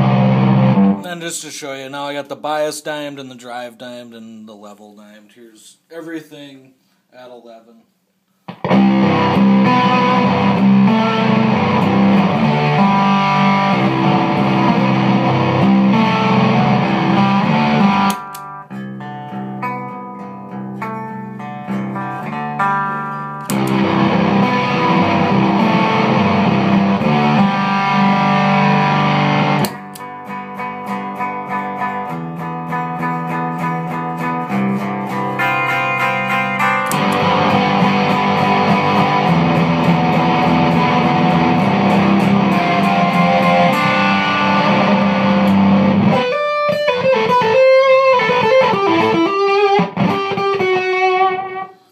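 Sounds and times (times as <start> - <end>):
fuzzed electric guitar chords: 0.0 - 1.1, 8.5 - 51.9.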